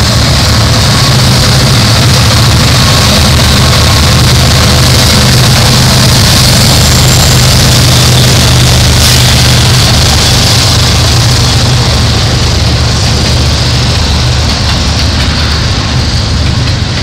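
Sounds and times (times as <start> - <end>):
diesel locomotive engines droning: 0.0 - 17.0
wheels rumbling on rails: 0.0 - 17.0.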